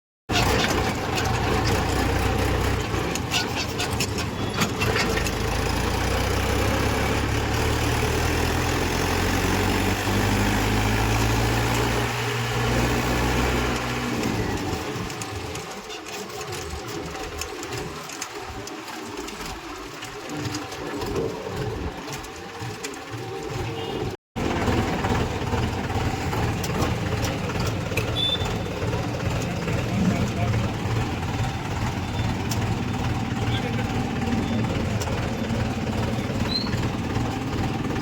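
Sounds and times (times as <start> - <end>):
diesel engine running: 0.3 - 38.0.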